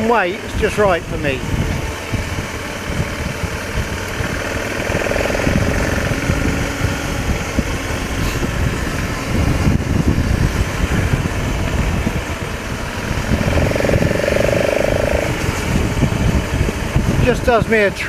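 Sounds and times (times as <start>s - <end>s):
single-cylinder motorcycle engine: 0.0s - 18.0s.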